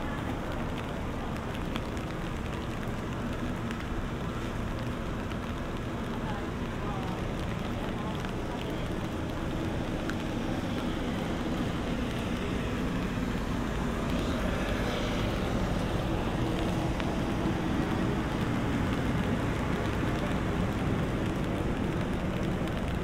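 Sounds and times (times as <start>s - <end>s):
city street ambience rumble: 0.0s - 23.0s.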